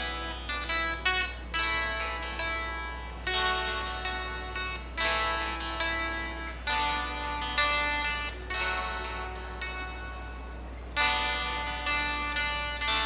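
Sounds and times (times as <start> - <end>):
dulcimer playing a festive tune: 0.0 - 10.2, 11.0 - 13.0.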